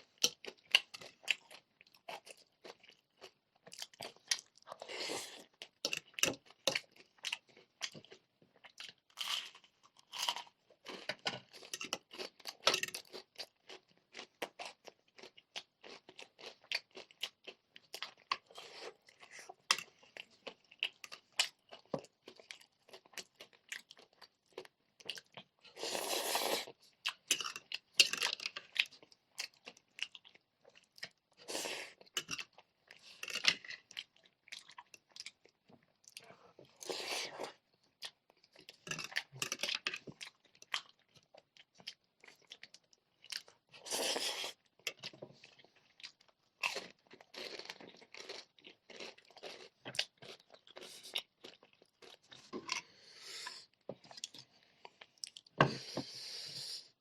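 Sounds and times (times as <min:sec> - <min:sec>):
crunching and chewing fried chicken: 0:00.0 - 0:56.0.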